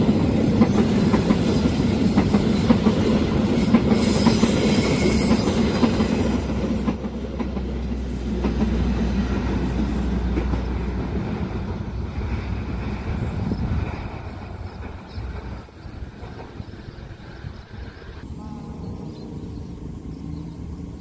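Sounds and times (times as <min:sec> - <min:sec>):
wheels clacking over rail joints: 0:00.0 - 0:17.5
train passing: 0:00.0 - 0:21.0.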